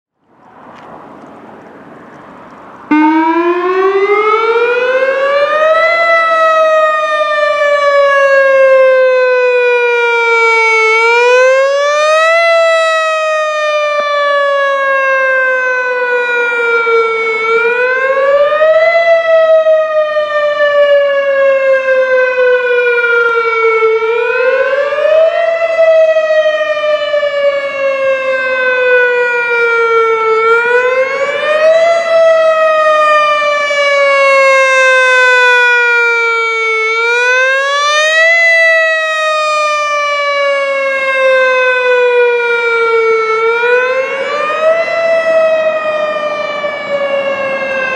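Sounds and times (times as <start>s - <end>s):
warning siren wailing: 0.4s - 47.9s.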